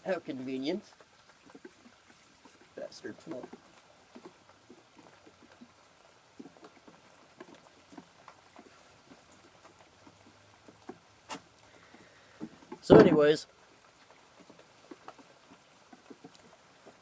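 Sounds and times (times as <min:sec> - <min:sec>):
light rain dripping: 0:00.0 - 0:17.0.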